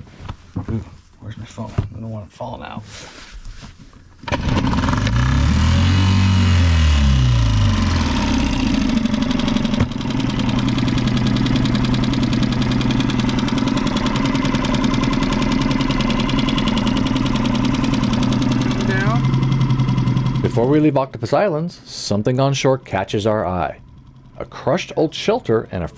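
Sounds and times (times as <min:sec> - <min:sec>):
outboard motor droning: 0:04.3 - 0:25.9.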